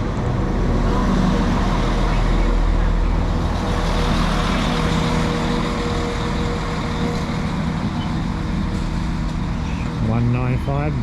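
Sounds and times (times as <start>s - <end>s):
train diesel engines humming: 0.0s - 11.0s.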